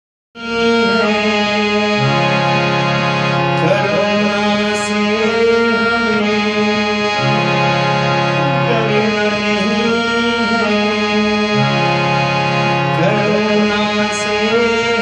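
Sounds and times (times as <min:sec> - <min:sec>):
instrumental music with sustained chords: 0:00.4 - 0:15.0.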